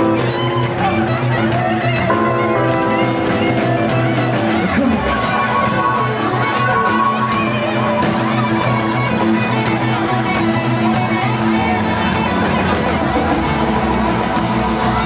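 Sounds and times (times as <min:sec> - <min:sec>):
drum kit: 0:00.0 - 0:15.0
electric guitar: 0:00.0 - 0:15.0
keyboard: 0:00.0 - 0:15.0
saxophone: 0:00.0 - 0:15.0.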